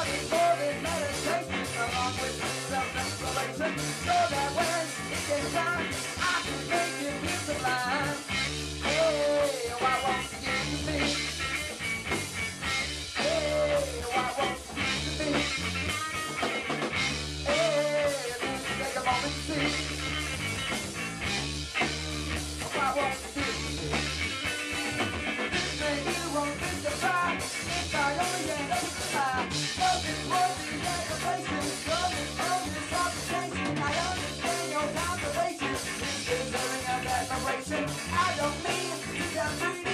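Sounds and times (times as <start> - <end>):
man singing: 0.0 - 11.5, 13.2 - 16.4, 17.4 - 20.1, 22.6 - 24.0, 25.5 - 39.9
drum kit: 0.0 - 39.9
electric bass: 0.0 - 39.9
electric guitar: 0.0 - 39.9.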